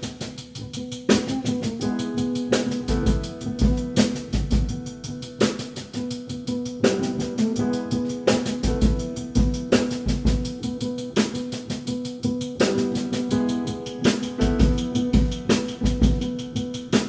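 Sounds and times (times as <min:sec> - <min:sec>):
drum kit cymbal pattern: 0:00.0 - 0:17.0
piano chords: 0:01.1 - 0:17.0.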